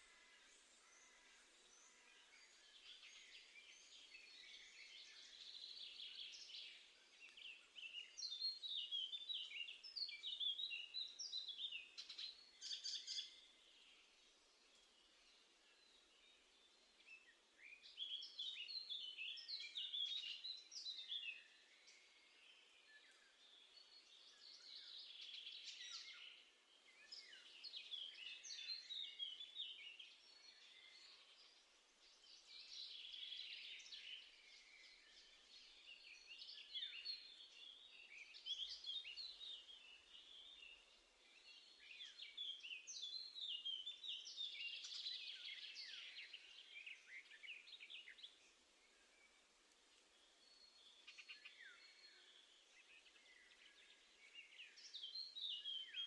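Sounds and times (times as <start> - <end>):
faint steady hiss: 0.0 - 56.0
songbirds chirping: 0.0 - 56.0.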